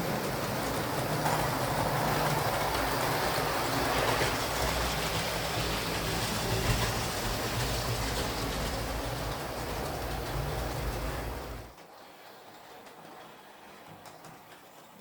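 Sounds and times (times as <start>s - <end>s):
model train wheel rumble: 0.0s - 14.5s.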